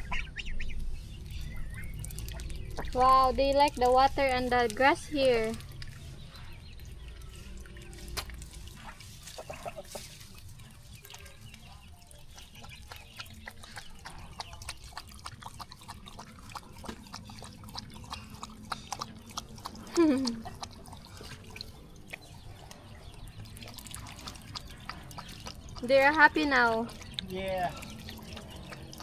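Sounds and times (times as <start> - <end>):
geese dabbling in muddy water: 0.0 - 29.0.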